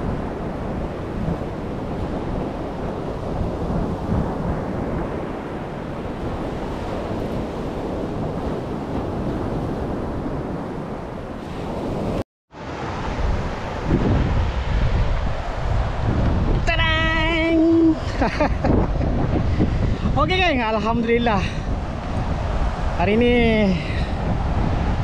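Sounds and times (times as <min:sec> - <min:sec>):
surf washing on beach: 0:00.0 - 0:25.0
wind buffeting microphone: 0:00.0 - 0:25.0.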